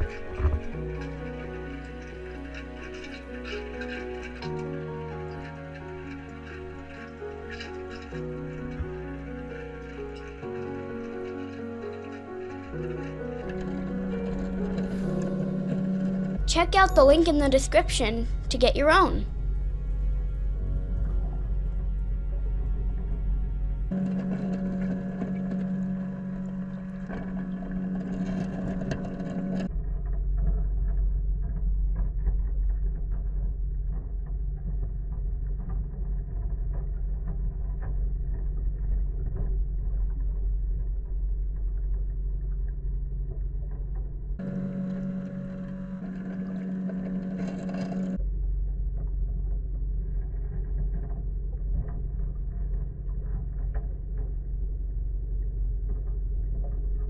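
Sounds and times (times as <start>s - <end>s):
robotic pool cleaner running: 0.0s - 16.5s, 19.4s - 57.0s.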